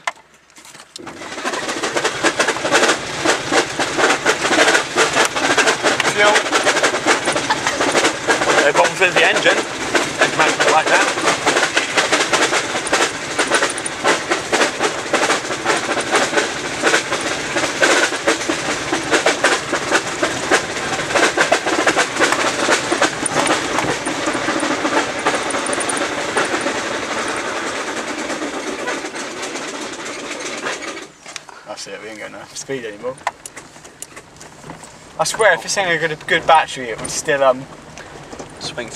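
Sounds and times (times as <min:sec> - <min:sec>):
car interior rattling: 0:00.0 - 0:38.9.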